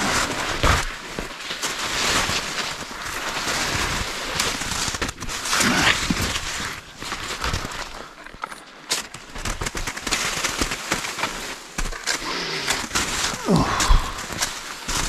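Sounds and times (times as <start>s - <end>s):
footsteps through undergrowth: 0.0s - 15.0s
twigs snapping and crackling: 0.0s - 15.0s.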